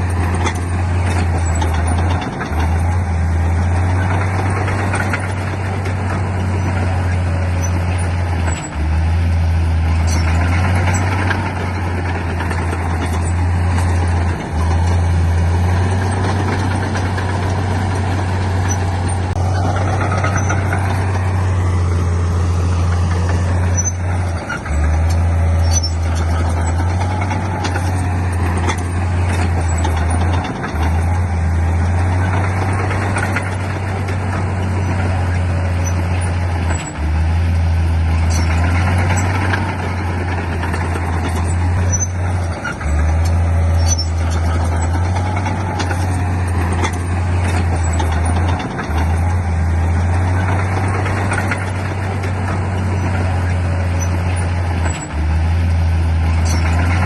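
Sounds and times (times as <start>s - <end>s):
diesel machinery engine drone: 0.0s - 57.0s
rough mechanical noise: 0.0s - 57.0s.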